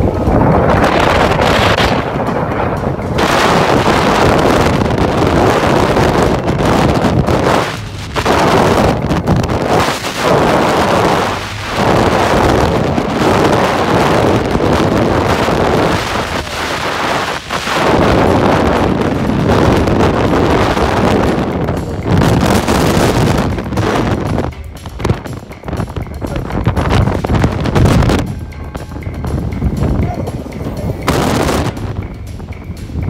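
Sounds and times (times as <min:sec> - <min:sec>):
strong wind on microphone: 0:00.0 - 0:33.0.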